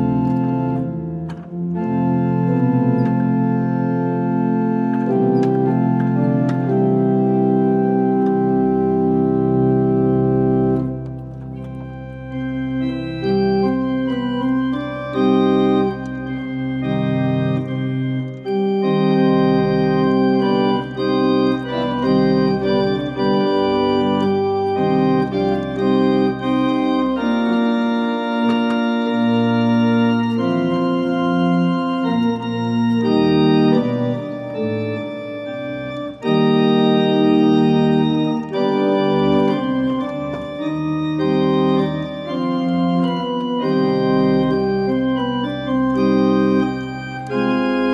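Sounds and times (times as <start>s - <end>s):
pipe organ chords: 0.0s - 47.9s.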